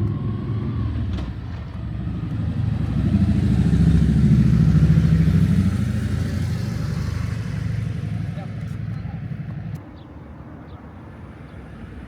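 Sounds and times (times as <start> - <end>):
vehicle engine humming: 0.0 - 9.8.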